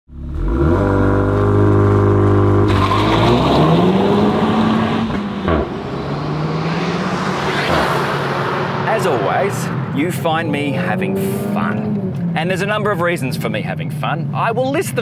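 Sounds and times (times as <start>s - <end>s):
car engine idling and revving: 0.1s - 15.0s.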